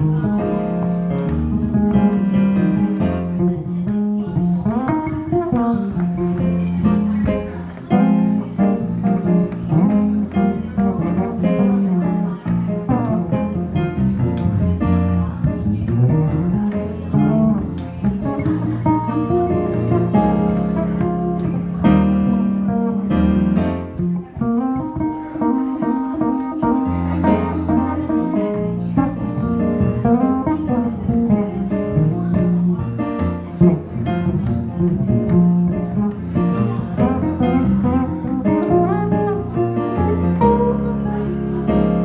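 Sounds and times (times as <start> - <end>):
jazz piano: 0.0 - 42.0
plucked string instrument: 0.0 - 42.0.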